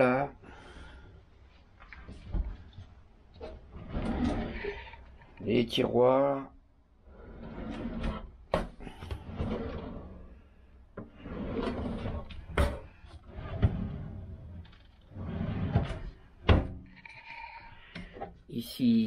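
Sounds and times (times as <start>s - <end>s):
drawers sliding open and shut: 1.9s - 5.9s, 7.1s - 18.4s.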